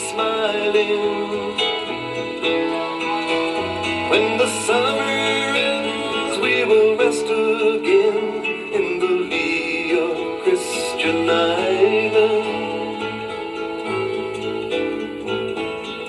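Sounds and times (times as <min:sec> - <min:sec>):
country folk music with singing: 0:00.0 - 0:16.0.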